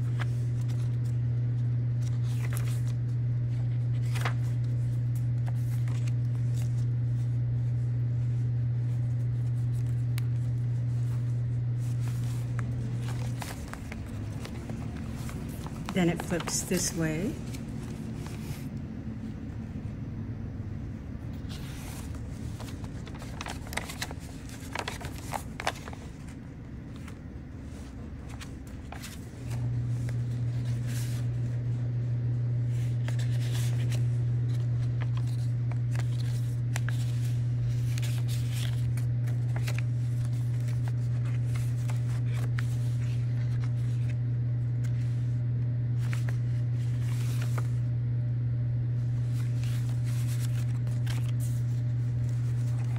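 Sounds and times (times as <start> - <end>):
paper pages rustling: 0.0 - 19.4, 21.3 - 47.9, 48.9 - 52.9
steady low hum: 0.0 - 52.9.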